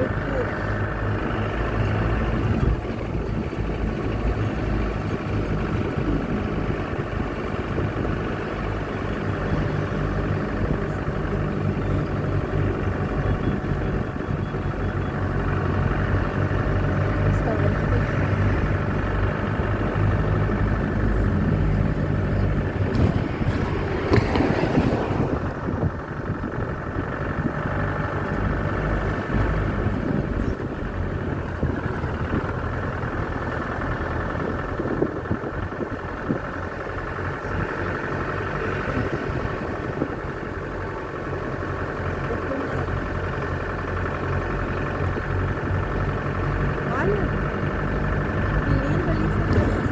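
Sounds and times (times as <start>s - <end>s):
road noise: 0.0s - 49.9s
vehicle engine humming: 0.0s - 49.9s.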